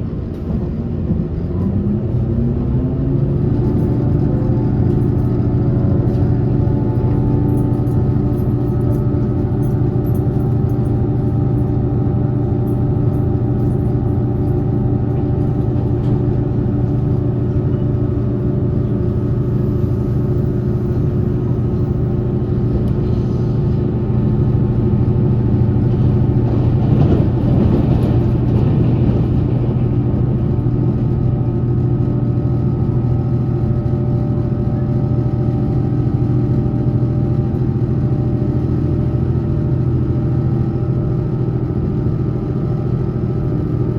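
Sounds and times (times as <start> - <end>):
train motor hum: 0.0 - 43.9.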